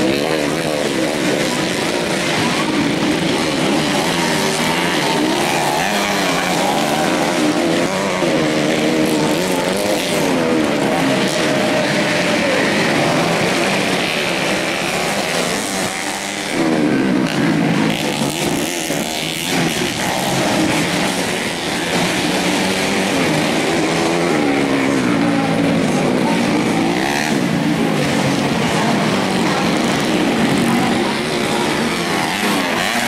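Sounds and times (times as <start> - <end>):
motorcycle engines revving: 0.0 - 33.0.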